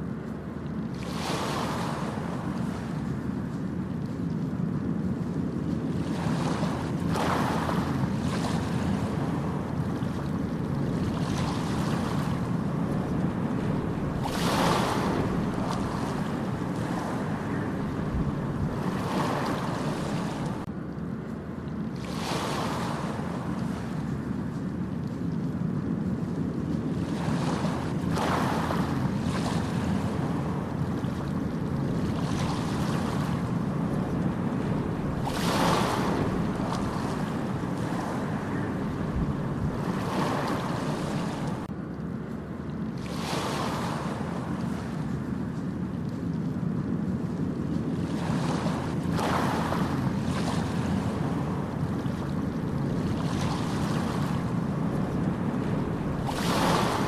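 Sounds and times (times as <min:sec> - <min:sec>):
ocean waves breaking: 0:00.0 - 0:20.8, 0:21.4 - 0:57.0
wind: 0:00.0 - 0:57.0.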